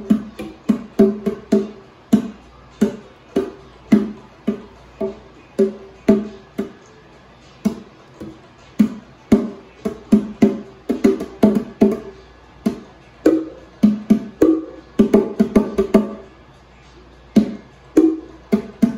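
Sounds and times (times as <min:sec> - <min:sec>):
bongo drums played by hand: 0:00.0 - 0:06.9, 0:07.6 - 0:16.2, 0:17.4 - 0:18.9.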